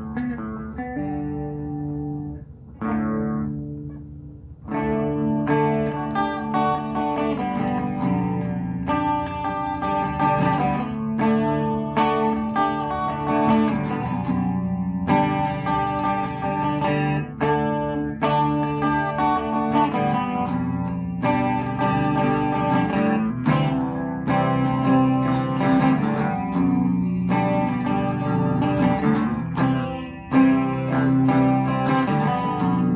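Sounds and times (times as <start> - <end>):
electric guitar chords strummed: 0.0 - 32.9.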